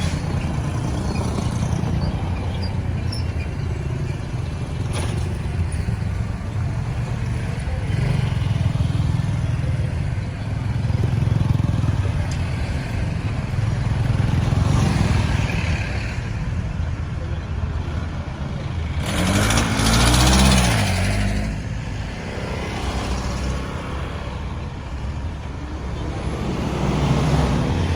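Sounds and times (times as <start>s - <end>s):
road traffic rumble: 0.0s - 27.9s.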